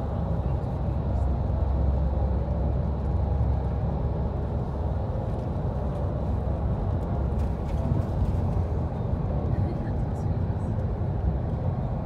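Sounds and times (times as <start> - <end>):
coach engine and tyres rumbling: 0.0 - 12.0.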